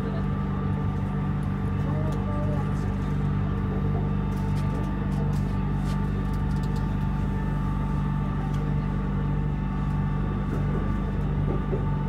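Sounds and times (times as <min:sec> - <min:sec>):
train running hum and rumble: 0:00.0 - 0:12.0.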